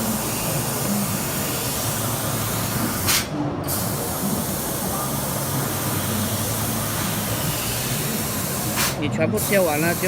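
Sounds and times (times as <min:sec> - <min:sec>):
laser cutter hissing: 0:00.0 - 0:10.0.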